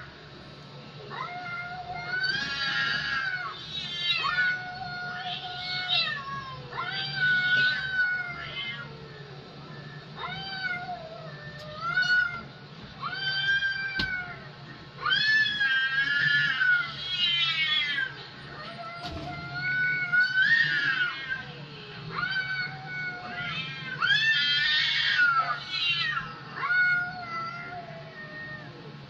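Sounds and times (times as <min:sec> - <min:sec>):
cats yowling: 0:01.0 - 0:29.0.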